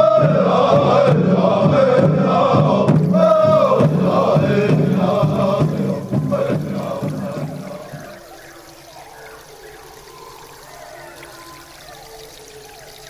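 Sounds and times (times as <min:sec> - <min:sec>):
voices chanting a song: 0:00.0 - 0:13.0.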